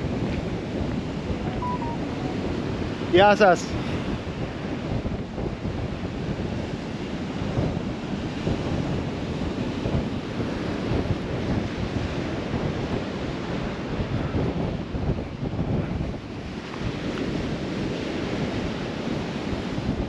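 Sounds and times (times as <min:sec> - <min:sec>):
wind buffeting microphone: 0:00.0 - 0:01.5, 0:02.3 - 0:20.0.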